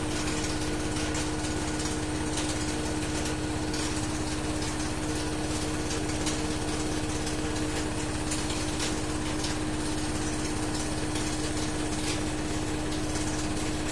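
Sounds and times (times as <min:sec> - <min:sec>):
washing machine spinning: 0:00.0 - 0:13.9.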